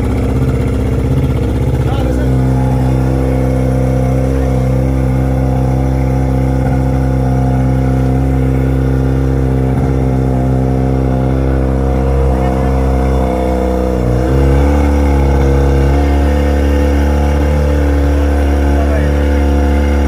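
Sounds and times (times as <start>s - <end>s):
fire engine running pump: 0.0s - 20.0s.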